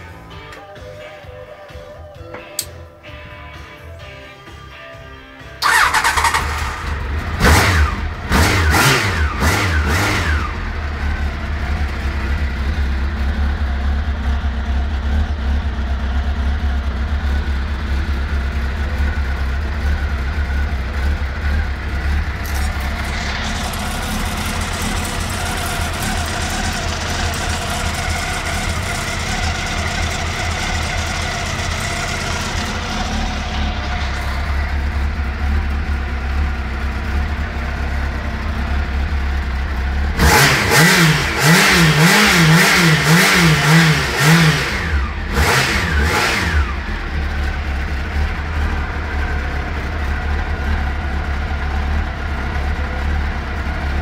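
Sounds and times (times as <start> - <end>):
motorcycle engine revving and idling: 5.6 - 54.0.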